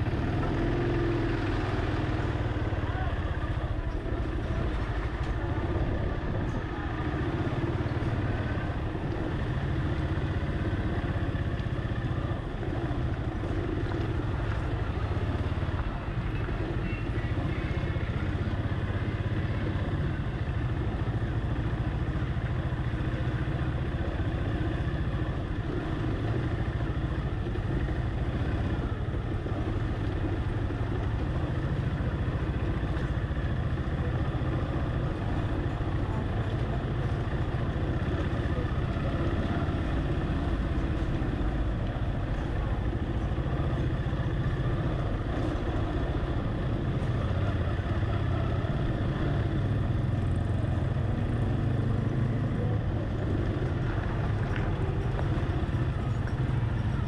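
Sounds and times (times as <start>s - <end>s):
nearby traffic: 0.0s - 57.0s
street life noise: 0.0s - 57.0s
vehicle engine running: 0.0s - 57.0s.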